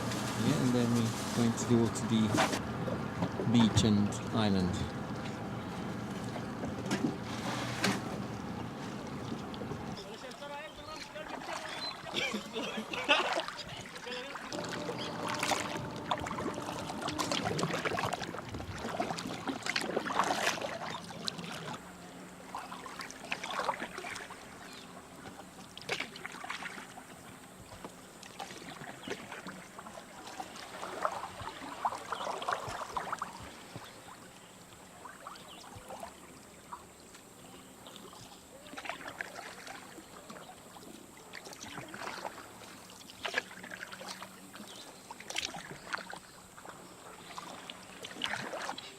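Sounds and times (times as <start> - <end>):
kayak paddles splashing water: 0.0 - 48.9.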